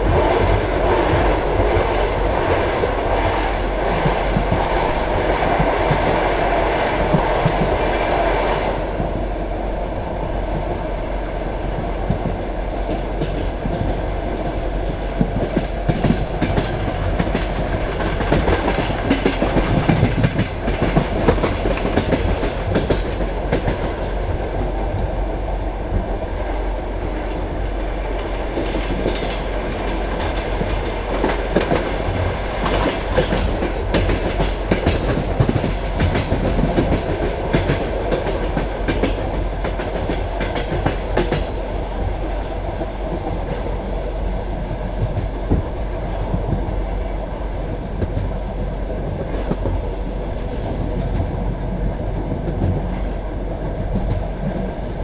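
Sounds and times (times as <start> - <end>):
train carriage rumbling: 0.0 - 55.0.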